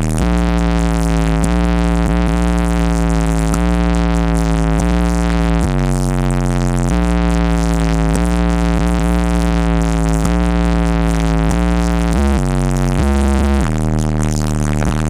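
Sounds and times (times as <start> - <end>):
trap music with heavy bass: 0.0 - 15.0.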